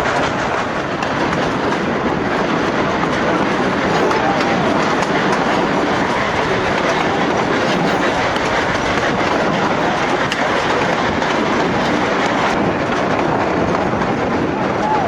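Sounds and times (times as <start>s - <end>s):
train rumbling: 0.0s - 15.0s
wheels clattering on rails: 0.0s - 15.0s.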